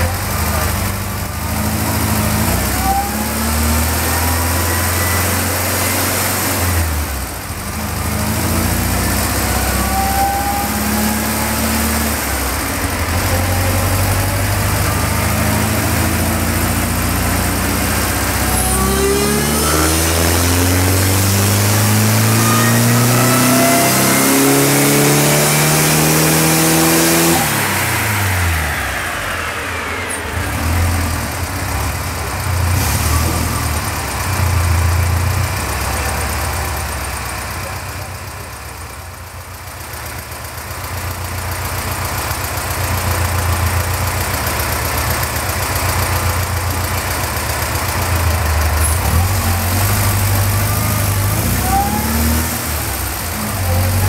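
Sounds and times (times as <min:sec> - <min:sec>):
car engine revving under load: 0:00.0 - 0:38.1, 0:41.0 - 0:54.0.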